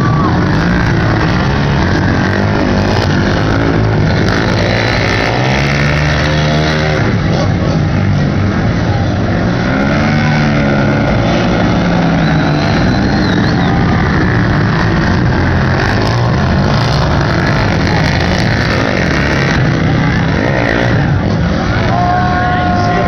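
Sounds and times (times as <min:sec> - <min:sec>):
quad engines revving: 0:00.0 - 0:23.0.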